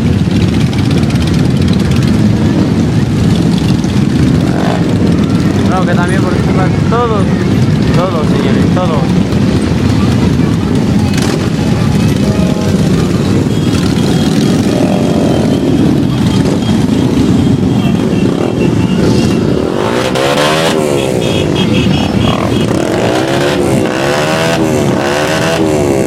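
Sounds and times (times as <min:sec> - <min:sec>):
motorcycles riding past: 0:00.0 - 0:26.0.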